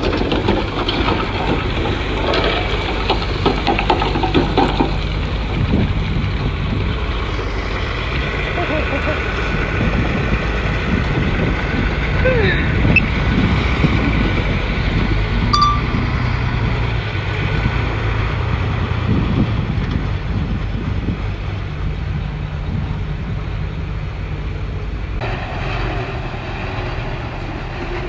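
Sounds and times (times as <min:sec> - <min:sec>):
bulldozer diesel engine drone: 0:00.0 - 0:28.0.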